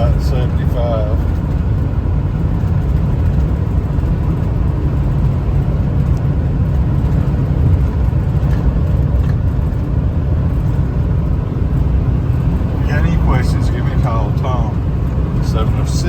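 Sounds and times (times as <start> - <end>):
truck cabin road drone: 0.0 - 16.0.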